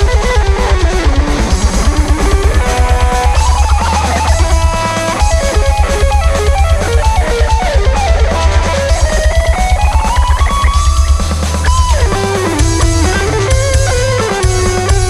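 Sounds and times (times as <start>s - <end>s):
fast drum and bass beat: 0.0s - 15.0s
sliding lead melody: 0.0s - 15.0s.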